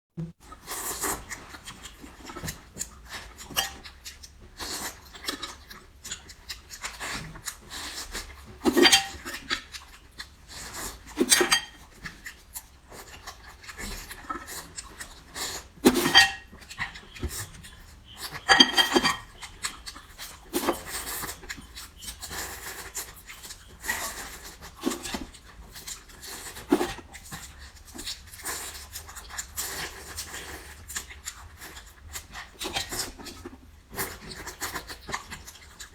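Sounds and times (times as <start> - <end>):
chewing and slurping seafood: 0.4 - 35.9.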